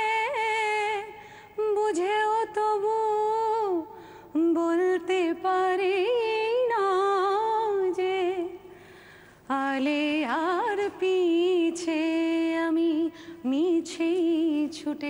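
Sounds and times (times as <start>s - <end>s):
woman singing unaccompanied: 0.0s - 8.6s, 9.5s - 15.0s.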